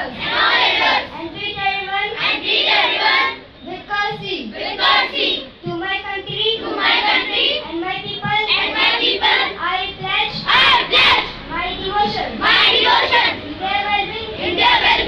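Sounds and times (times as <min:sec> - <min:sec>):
children chanting in unison: 0:00.0 - 0:03.5, 0:04.4 - 0:05.6, 0:06.2 - 0:15.0.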